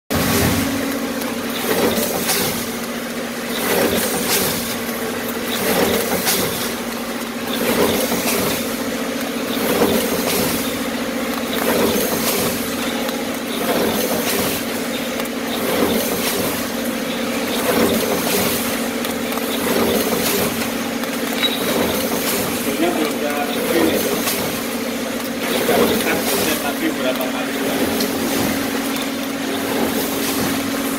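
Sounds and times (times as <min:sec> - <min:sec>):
machine humming: 0:00.1 - 0:30.9.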